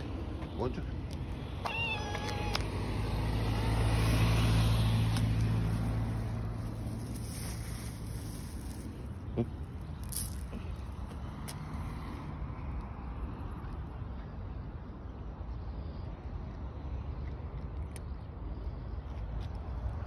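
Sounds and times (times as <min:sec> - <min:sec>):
urban street rumble: 0:00.0 - 0:20.0.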